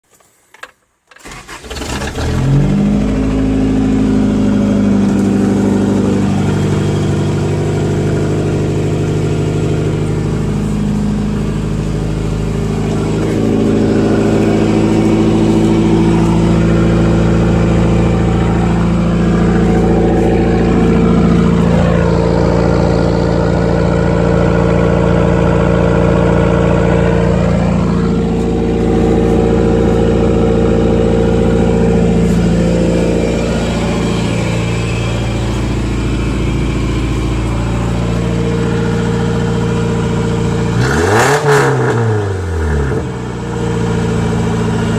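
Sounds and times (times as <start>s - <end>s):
car engine cranking and starting: 0.4s - 44.9s
engine revving: 1.2s - 44.9s.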